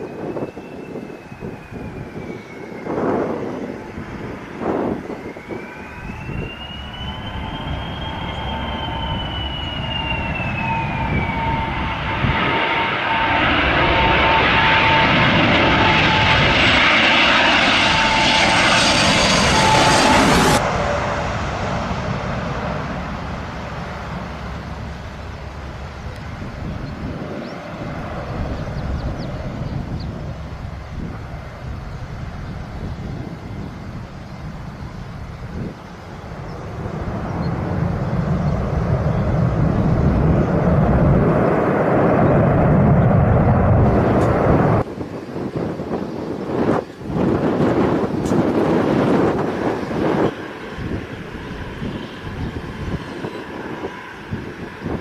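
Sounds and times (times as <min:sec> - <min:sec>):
jet engines whining: 0:00.0 - 0:55.0
low jet rumble: 0:00.0 - 0:55.0
wind noise: 0:00.0 - 0:55.0.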